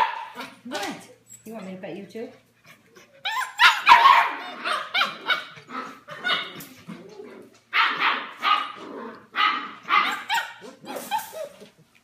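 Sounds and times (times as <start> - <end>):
puppies barking and yipping: 0.0 - 0.7, 2.6 - 12.0.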